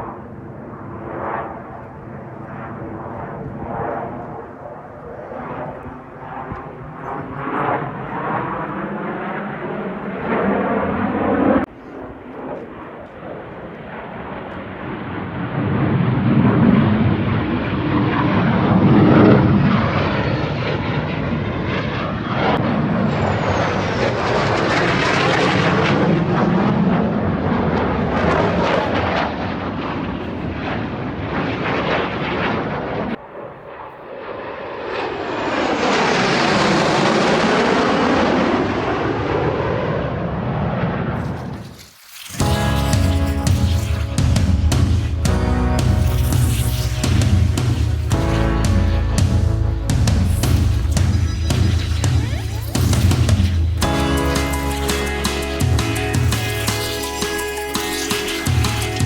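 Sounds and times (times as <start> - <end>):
jet aircraft passing overhead: 0.0 - 59.0.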